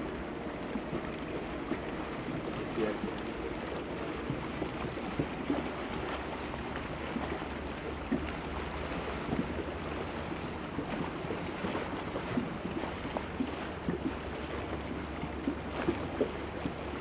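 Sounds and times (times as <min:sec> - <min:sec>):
boat engine low rumble: 0:00.0 - 0:17.0
water splashing against hull: 0:00.0 - 0:17.0.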